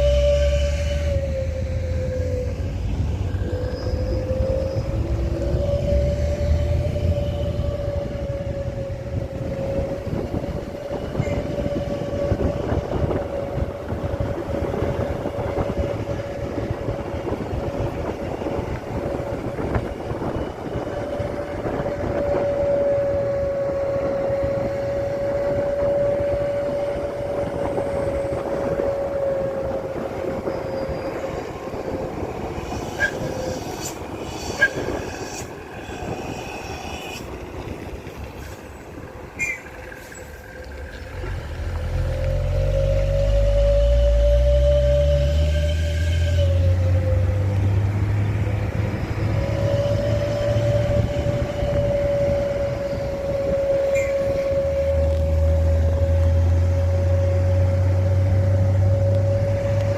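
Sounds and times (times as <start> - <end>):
heavy truck rumbling: 0.0 - 59.9
high whine: 0.0 - 59.9.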